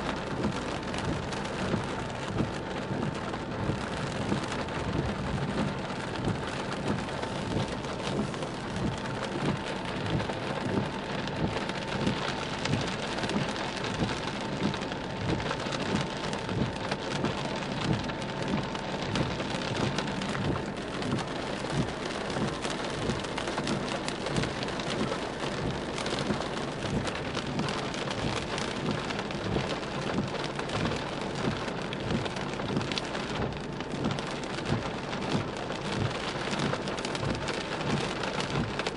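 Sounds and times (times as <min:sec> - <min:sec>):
heavy rain on car windshield: 0:00.0 - 0:38.9.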